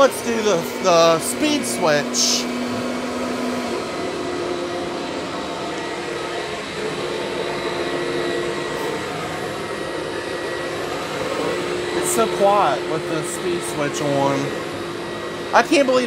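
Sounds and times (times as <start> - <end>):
upright vacuum running: 0.0 - 16.0.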